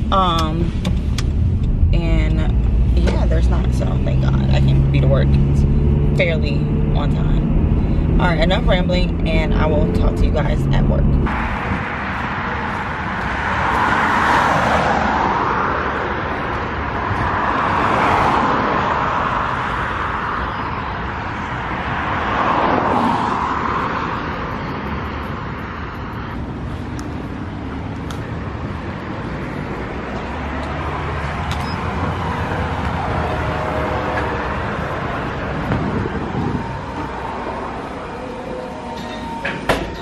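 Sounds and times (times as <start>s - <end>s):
cars passing: 0.0s - 40.0s
traffic hum: 0.0s - 40.0s.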